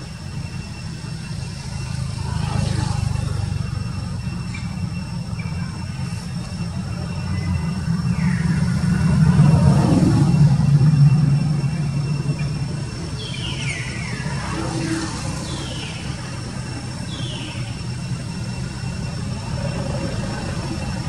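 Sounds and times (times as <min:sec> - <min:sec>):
low engine-like rumble: 0:00.0 - 0:21.0
high falling chirps: 0:03.0 - 0:21.0.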